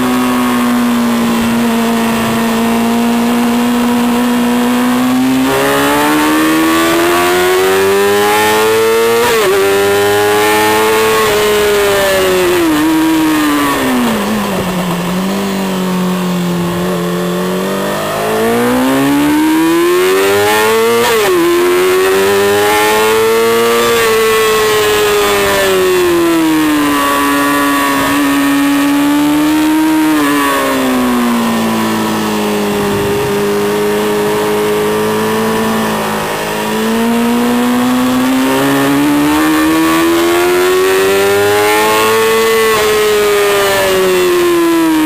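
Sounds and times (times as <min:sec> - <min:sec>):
racing motorcycle engine: 0:00.0 - 0:45.0.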